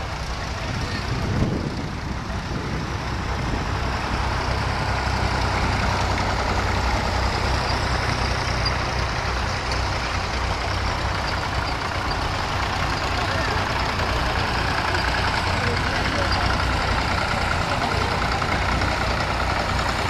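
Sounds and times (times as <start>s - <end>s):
tractor driving past: 0.0s - 20.0s
tractor engines running: 0.0s - 20.0s.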